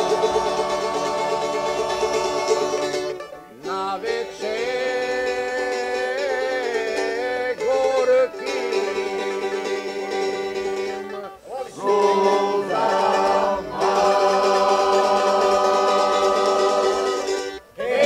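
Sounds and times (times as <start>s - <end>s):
plucked string folk music: 0.0s - 18.0s.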